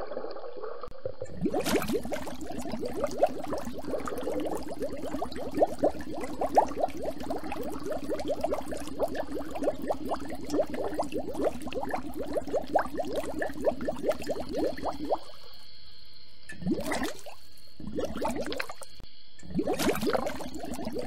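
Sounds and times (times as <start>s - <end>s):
air bubbles gurgling underwater: 1.1s - 15.6s, 16.5s - 21.0s.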